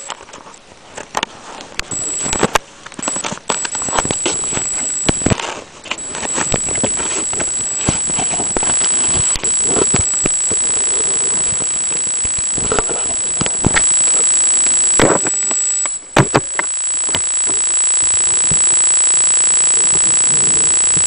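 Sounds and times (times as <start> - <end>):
steady high-pitched whine: 1.9 - 21.0.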